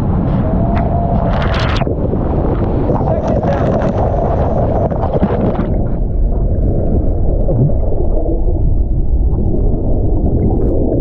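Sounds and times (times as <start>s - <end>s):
muffled underwater water rumble: 0.0s - 11.0s.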